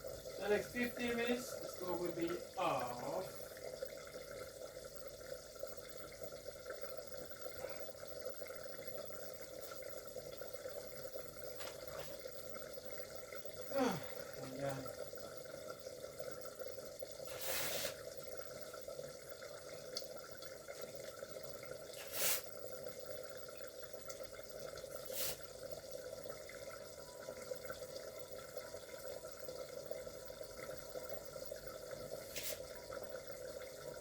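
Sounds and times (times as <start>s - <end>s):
pot simmering hiss: 0.0s - 34.0s.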